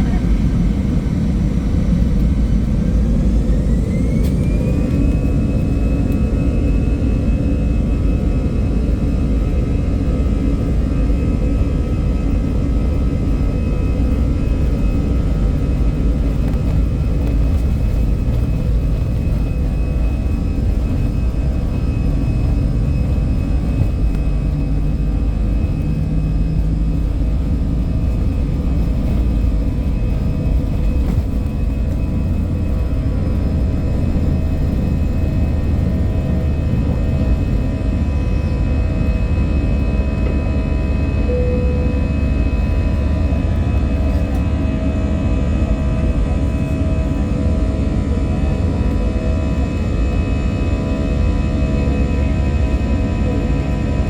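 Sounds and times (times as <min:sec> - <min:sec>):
jet engines rumbling from cabin: 0:00.0 - 0:54.0.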